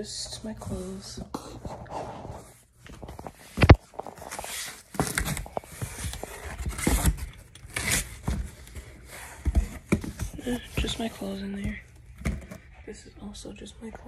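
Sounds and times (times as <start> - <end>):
cardboard box rustling and scraping: 0.7 - 12.7.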